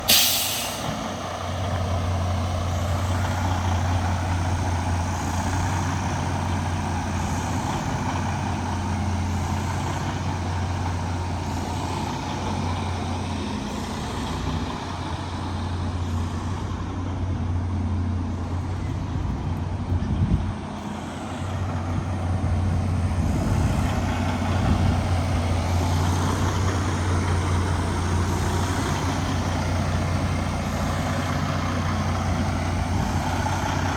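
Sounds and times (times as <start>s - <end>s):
truck diesel engine idling: 0.0s - 20.0s, 20.6s - 33.9s.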